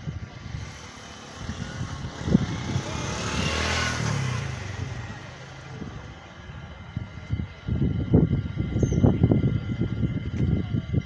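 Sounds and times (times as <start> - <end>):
motor vehicle passing: 0.0 - 9.6.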